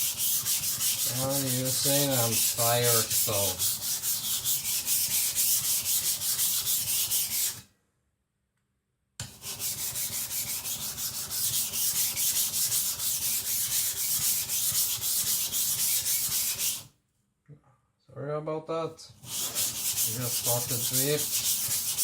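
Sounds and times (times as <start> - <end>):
blade grinding on wet whetstone: 0.0 - 7.6, 9.3 - 16.8, 19.2 - 22.0.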